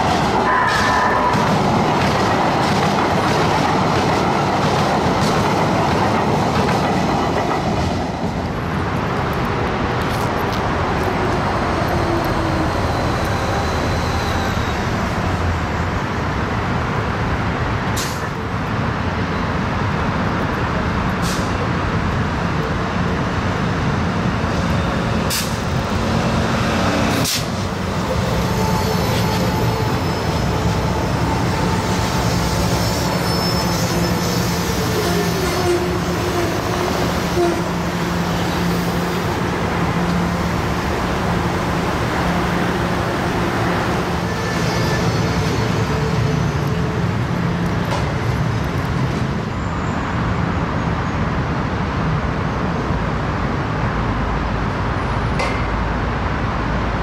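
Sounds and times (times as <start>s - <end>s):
light-rail train running: 0.0s - 57.0s.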